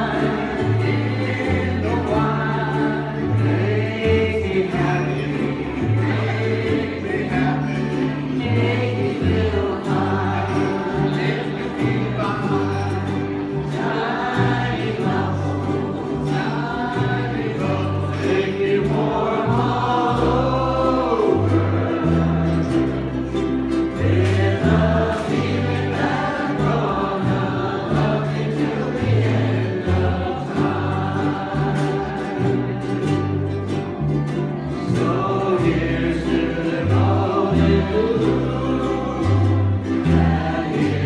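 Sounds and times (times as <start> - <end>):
group of voices singing: 0.0 - 41.0
ukulele band strumming: 0.0 - 41.0.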